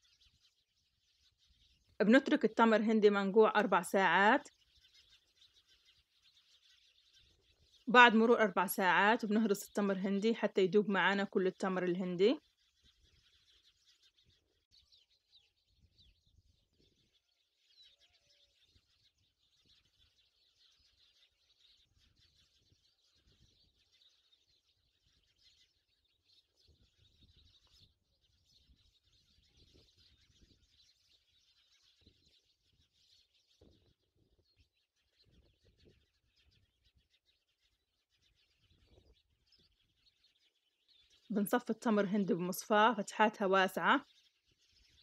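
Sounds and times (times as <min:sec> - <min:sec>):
faint birds chirping: 0:00.0 - 0:45.0.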